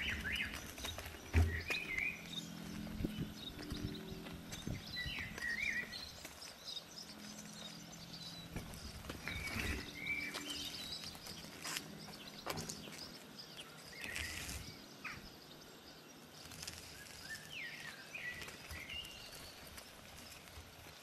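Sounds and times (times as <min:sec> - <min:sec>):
bird chirps: 0:00.0 - 0:20.5.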